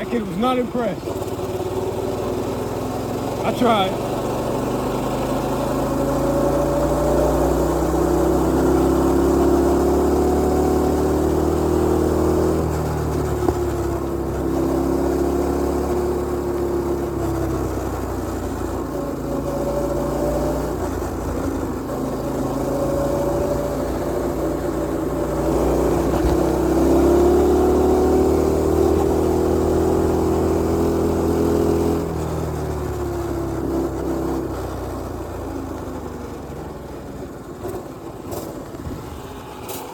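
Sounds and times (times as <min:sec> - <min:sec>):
small engine revving: 0:00.0 - 0:36.5, 0:37.6 - 0:39.9.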